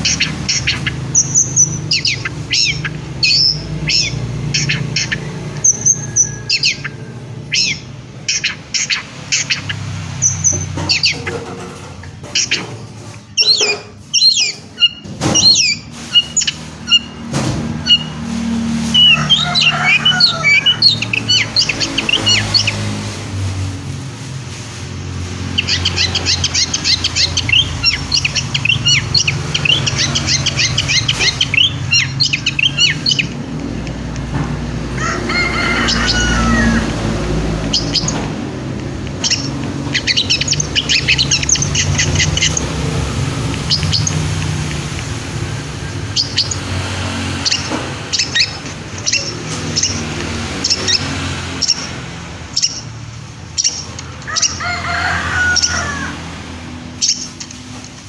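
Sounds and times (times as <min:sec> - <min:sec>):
shrike chattering chirps: 0:00.0 - 0:18.2, 0:18.9 - 0:23.0, 0:25.4 - 0:33.4, 0:35.0 - 0:38.2, 0:39.0 - 0:56.1.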